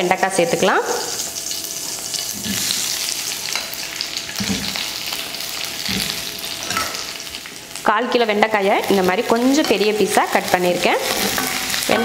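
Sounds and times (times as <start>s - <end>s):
okra sizzling in hot oil: 0.0s - 12.0s.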